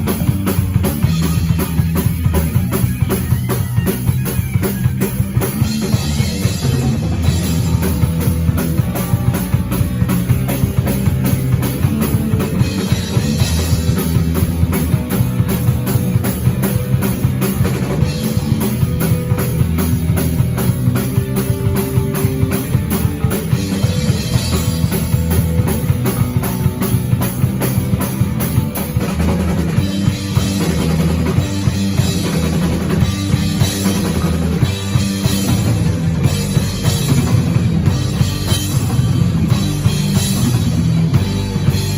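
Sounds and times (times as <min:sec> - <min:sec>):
drum kit fast beat: 0:00.0 - 0:41.9
electric guitar: 0:00.0 - 0:41.9.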